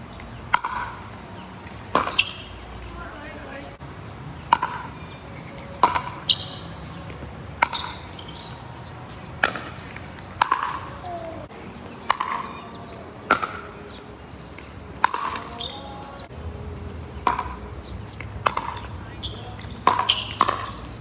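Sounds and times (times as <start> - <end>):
paddles striking pickleball: 0.1 - 3.6, 4.4 - 11.4, 12.0 - 16.3, 17.1 - 21.0.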